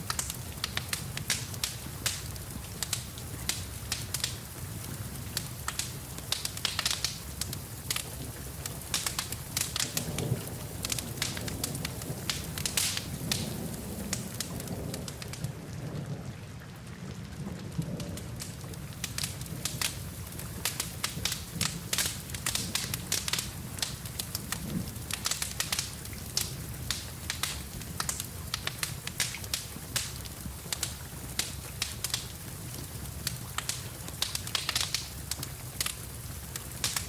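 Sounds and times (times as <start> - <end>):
log fire crackling and popping: 0.0 - 15.6, 17.3 - 37.0
steady rain: 0.0 - 37.0.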